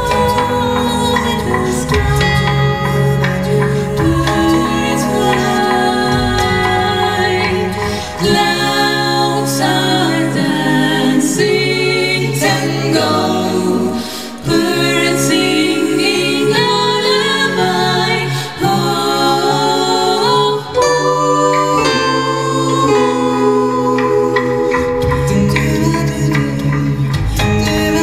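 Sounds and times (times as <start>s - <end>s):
vocal ensemble singing in harmony: 0.0s - 28.0s.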